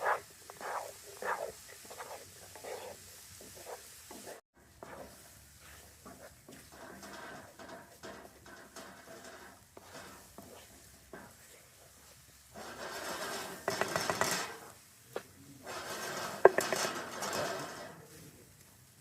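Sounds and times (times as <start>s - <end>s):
utensils scraping and clinking cookware: 0.0s - 14.8s, 15.6s - 18.2s.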